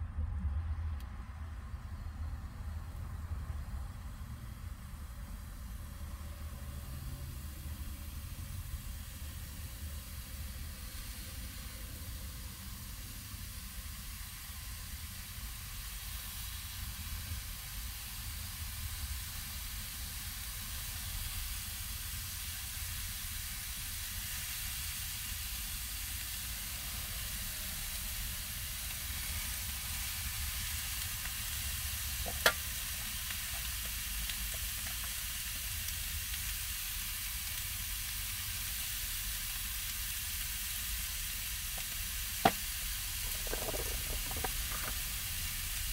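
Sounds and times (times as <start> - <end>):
steak sizzling in a pan: 5.4 - 45.9.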